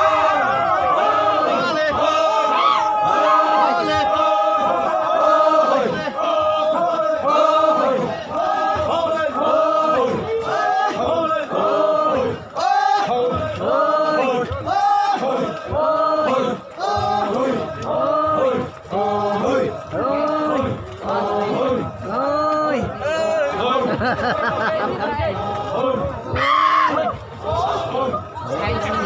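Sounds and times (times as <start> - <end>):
crowd chanting in unison: 0.0 - 29.0.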